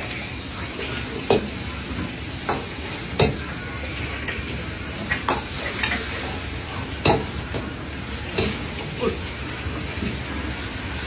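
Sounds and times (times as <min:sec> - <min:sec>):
egg sizzling in wok: 0:00.0 - 0:11.0.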